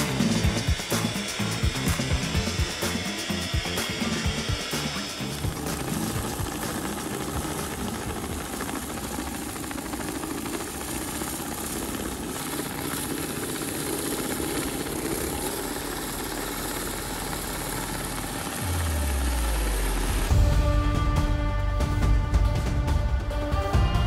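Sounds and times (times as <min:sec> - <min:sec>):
churning drone: 0:00.0 - 0:24.0.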